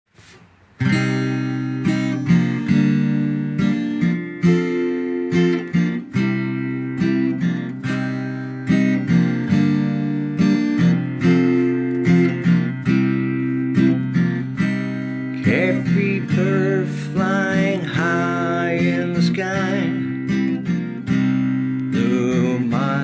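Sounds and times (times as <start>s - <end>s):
acoustic guitar strumming: 0.2s - 23.0s.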